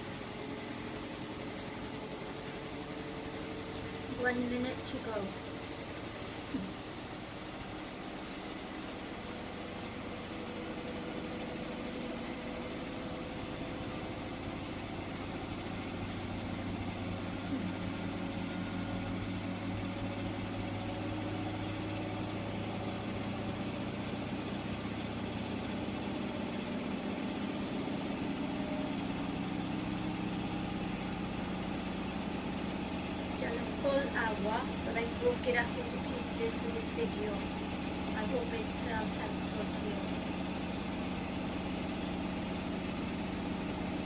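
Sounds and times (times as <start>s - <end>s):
washing machine motor hum: 0.0s - 44.0s.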